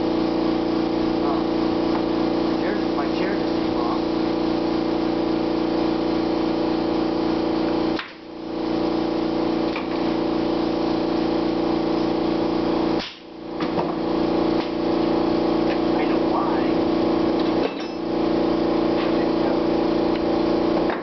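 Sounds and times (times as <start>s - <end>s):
motor drone: 0.0s - 21.0s.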